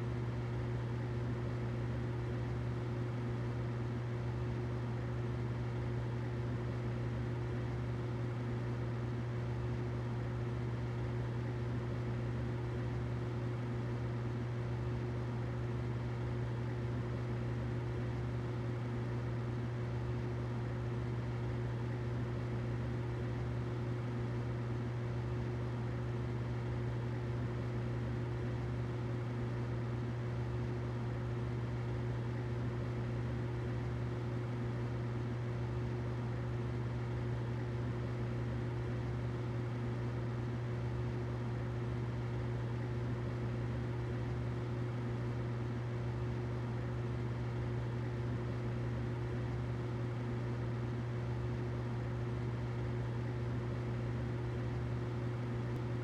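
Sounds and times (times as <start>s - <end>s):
humidifier humming and hissing: 0.0s - 56.0s.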